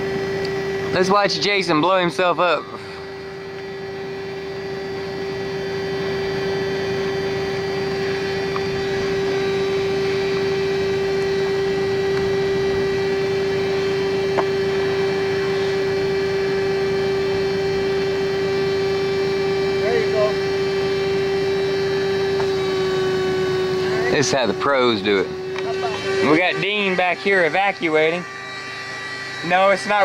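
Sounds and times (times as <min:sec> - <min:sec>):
small motor humming: 0:00.0 - 0:30.0.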